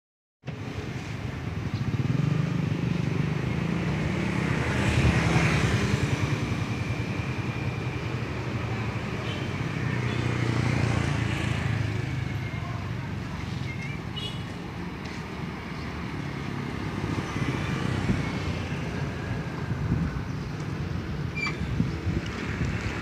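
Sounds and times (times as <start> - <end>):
vehicles passing by: 0.4 - 23.0.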